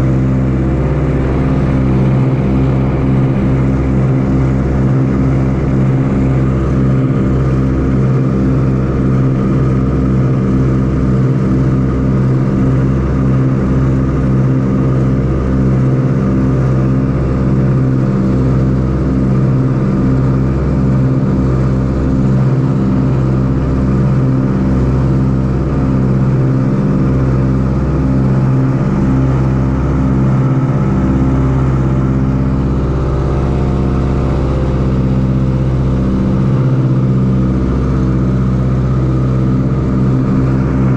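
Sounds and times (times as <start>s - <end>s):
propeller aircraft engines droning: 0.0s - 40.9s.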